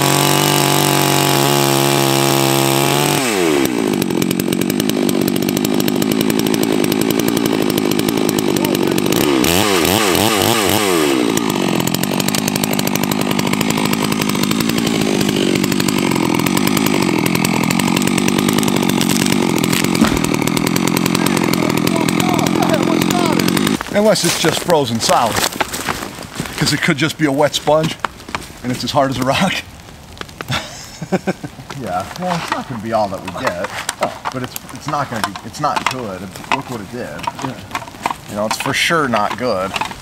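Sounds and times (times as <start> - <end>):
chainsaw revving: 0.0 - 28.4, 30.5 - 40.0.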